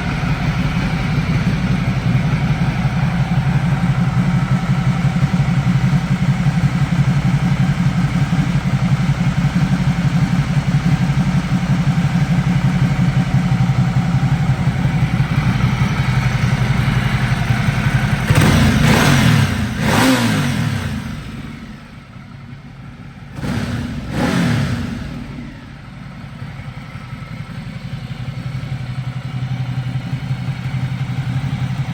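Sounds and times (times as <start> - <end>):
motorcycle engine revving: 0.0 - 22.3, 23.2 - 31.9
motorcycle engine idling: 0.0 - 31.9.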